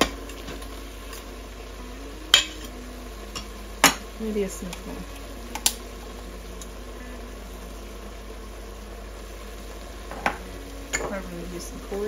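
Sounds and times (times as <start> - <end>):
faint hiss: 0.0 - 12.0
low hum: 0.0 - 12.0.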